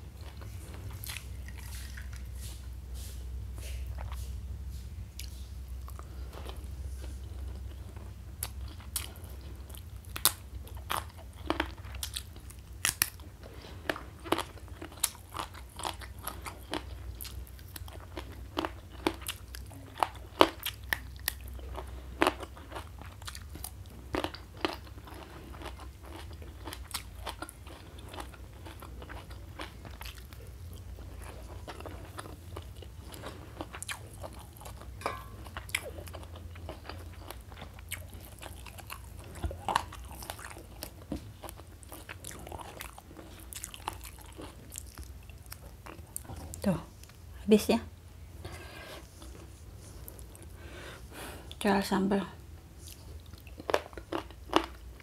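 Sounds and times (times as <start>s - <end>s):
person chewing crunchy food: 0.0s - 47.2s, 48.4s - 51.6s, 52.8s - 55.0s
low steady hum: 0.0s - 55.0s.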